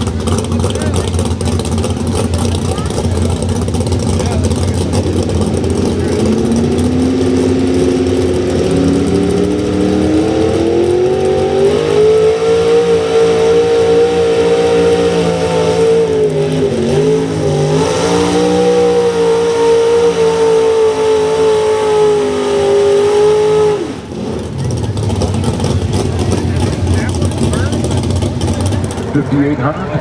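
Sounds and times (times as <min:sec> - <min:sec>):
truck engine revving under load: 0:00.0 - 0:30.0.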